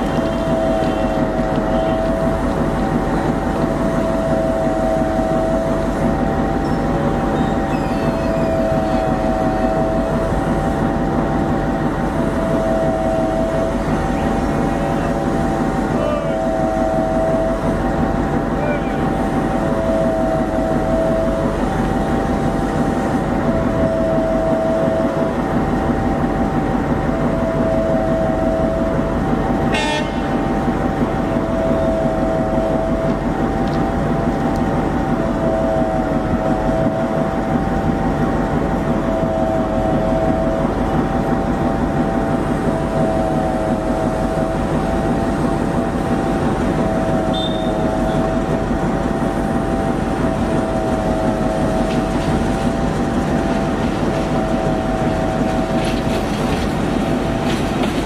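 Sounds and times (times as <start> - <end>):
wavering whine: 0.0 - 57.4
diesel locomotive engine rumbling: 0.0 - 58.0.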